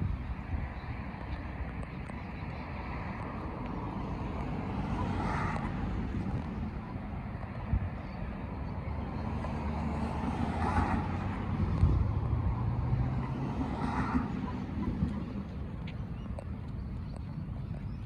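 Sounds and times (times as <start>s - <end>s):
vehicles passing on highway: 0.0s - 18.0s.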